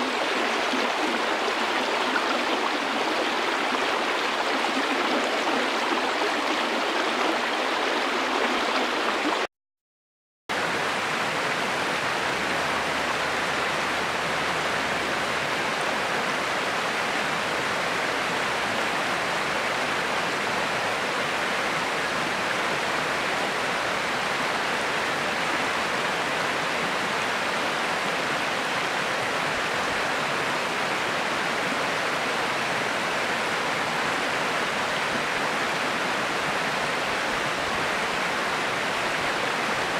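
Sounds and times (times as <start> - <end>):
river water rushing: 0.0 - 9.5, 10.6 - 39.9.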